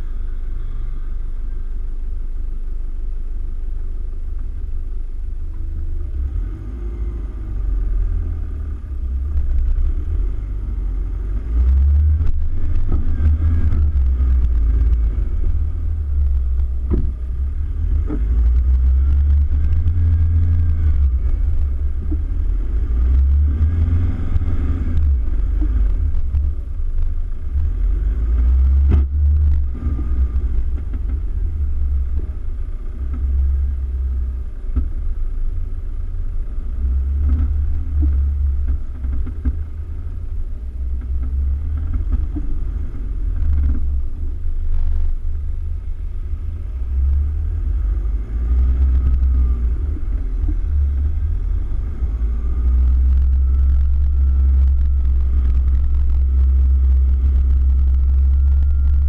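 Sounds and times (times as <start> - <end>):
vehicle engine rumble: 0.0 - 59.0
wind noise on camera: 6.2 - 35.2, 36.6 - 59.0.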